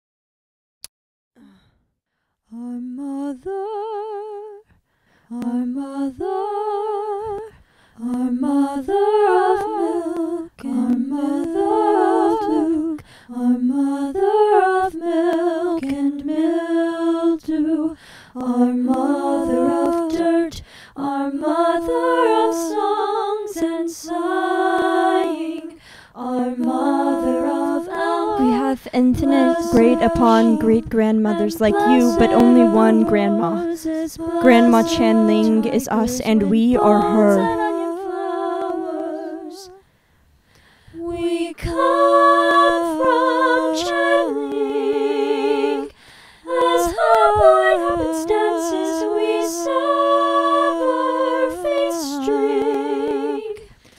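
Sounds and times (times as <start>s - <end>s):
woman singing unaccompanied: 5.4s - 16.6s, 17.3s - 39.8s, 41.0s - 45.9s, 46.5s - 53.7s.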